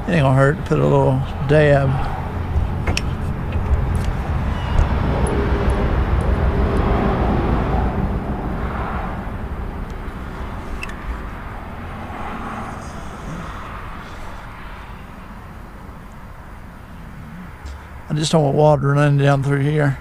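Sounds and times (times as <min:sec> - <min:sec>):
distant engine rumble: 0:00.0 - 0:20.0.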